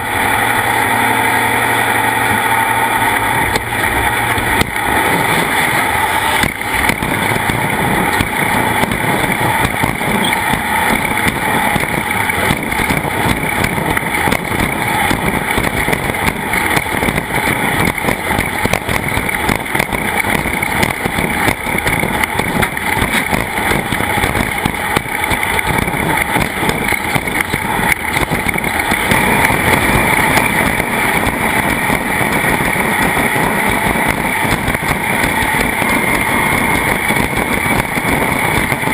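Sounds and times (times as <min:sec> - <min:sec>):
racing engine running at speed: 0:00.0 - 0:38.9.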